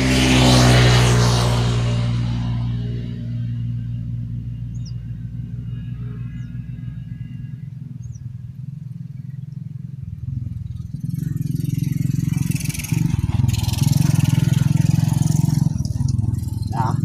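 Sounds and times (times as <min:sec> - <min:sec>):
motor engine rumbling: 0:00.0 - 0:17.0.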